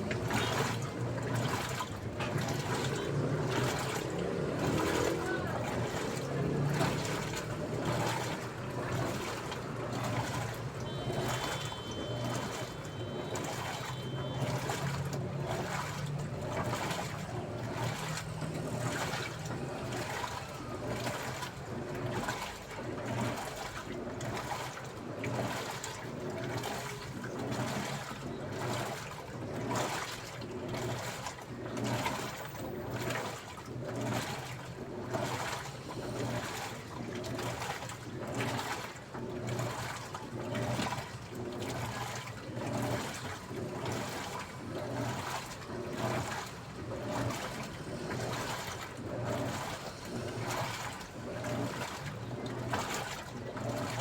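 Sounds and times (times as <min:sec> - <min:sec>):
water sloshing in washing machine: 0:00.0 - 0:54.0.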